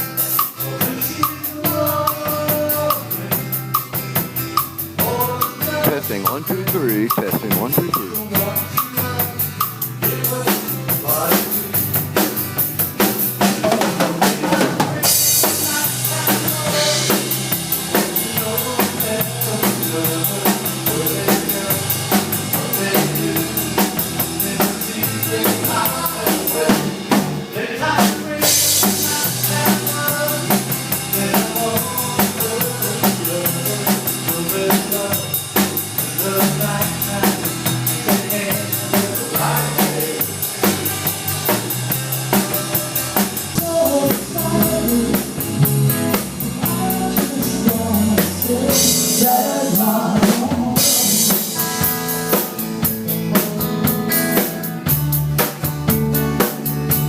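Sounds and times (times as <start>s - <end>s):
band music: 0.0s - 57.0s
drum kit beat: 0.0s - 57.0s.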